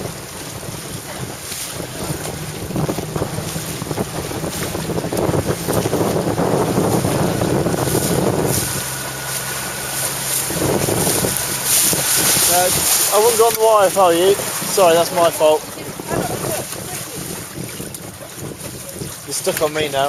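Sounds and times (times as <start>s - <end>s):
water rushing past hull: 0.0s - 20.0s
wind buffeting microphone: 0.0s - 20.0s.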